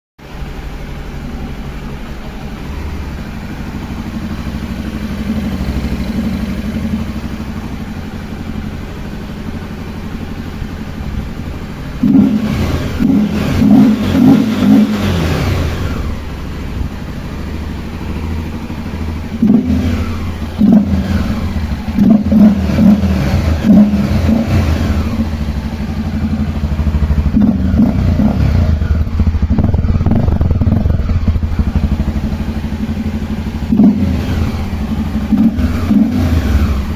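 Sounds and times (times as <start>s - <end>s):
motorcycle engine revving: 0.2s - 36.9s.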